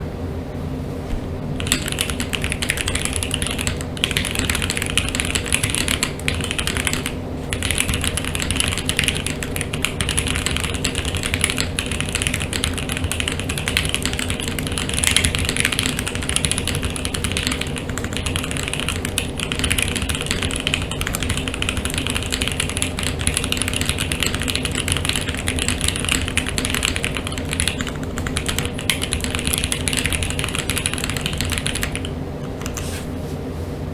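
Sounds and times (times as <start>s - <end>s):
typing on mechanical keyboard: 1.6s - 32.8s.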